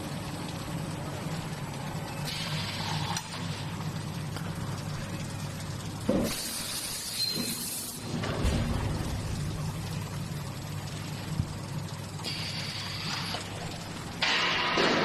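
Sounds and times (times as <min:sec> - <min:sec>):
machinery low hum: 0:00.0 - 0:06.7, 0:08.0 - 0:15.0.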